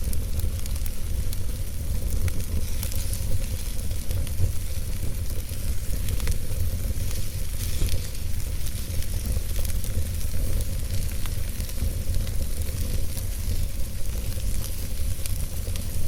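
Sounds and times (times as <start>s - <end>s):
fire crackling and popping: 0.0s - 16.0s
fire rumbling and hissing: 0.0s - 16.0s.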